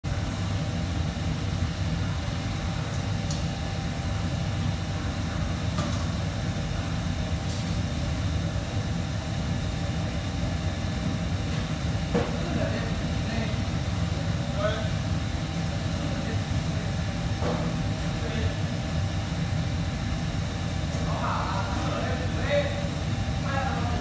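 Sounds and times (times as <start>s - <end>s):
kitchen ventilation rumble and hiss: 0.0s - 24.0s.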